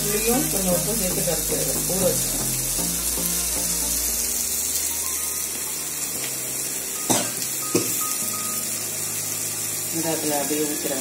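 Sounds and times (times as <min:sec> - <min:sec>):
meat frying in oil: 0:00.0 - 0:11.0.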